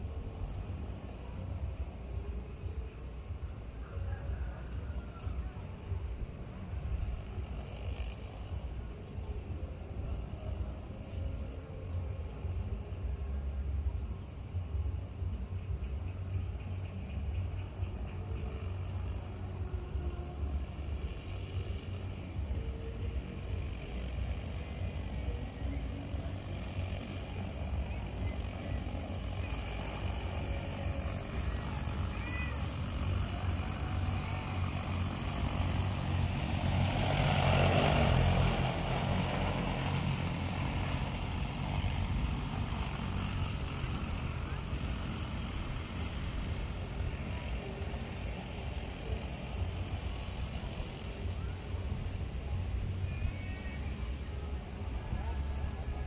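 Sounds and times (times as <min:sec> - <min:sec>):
constant low rumble: 0:00.0 - 0:56.0
crop-spraying aircraft engine: 0:00.0 - 0:56.0.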